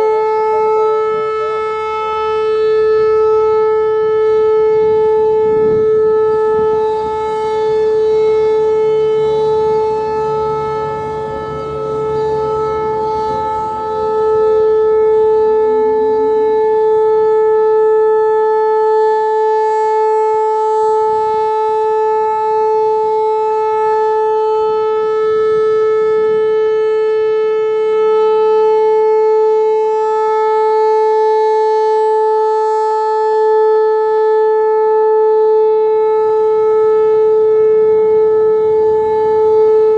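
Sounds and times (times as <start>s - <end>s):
storm siren steady high tone: 0.0s - 39.9s.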